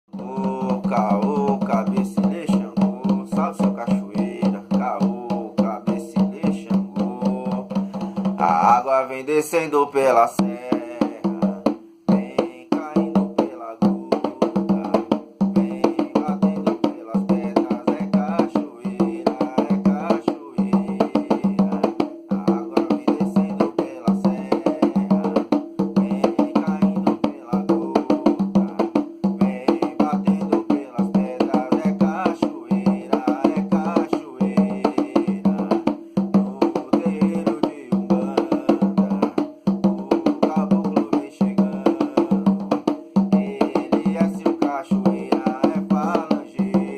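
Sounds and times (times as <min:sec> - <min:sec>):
drums and percussion music: 0:00.1 - 0:08.9, 0:10.4 - 0:46.9.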